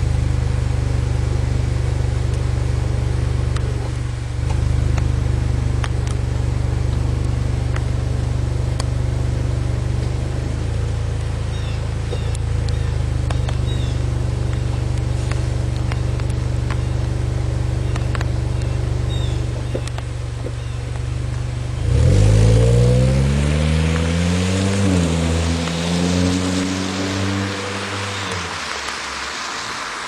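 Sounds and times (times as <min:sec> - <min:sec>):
car engine exhaust note: 0:00.0 - 0:30.0.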